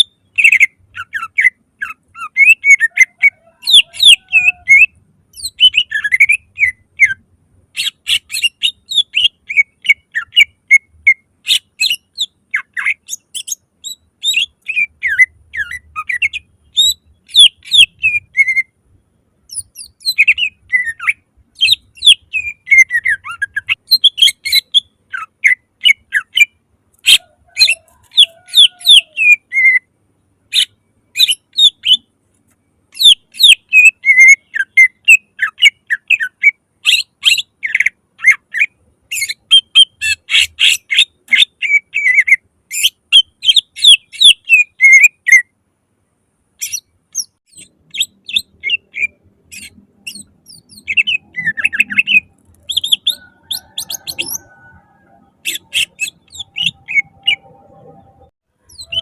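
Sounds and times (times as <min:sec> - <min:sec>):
bird singing chirps and whistles: 0:00.0 - 0:07.2, 0:07.8 - 0:18.7, 0:19.5 - 0:29.9, 0:30.5 - 0:32.1, 0:32.9 - 0:45.5, 0:46.6 - 0:57.8, 0:58.7 - 0:59.0.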